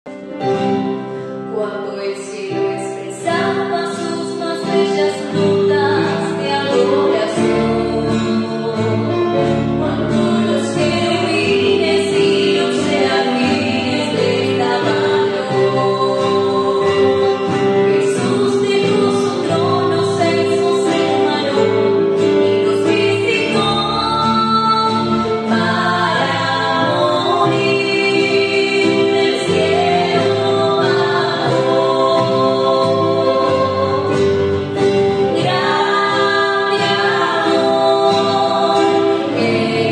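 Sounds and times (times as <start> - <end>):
nylon-string guitar: 0.0 - 39.9
two women singing: 0.3 - 39.9.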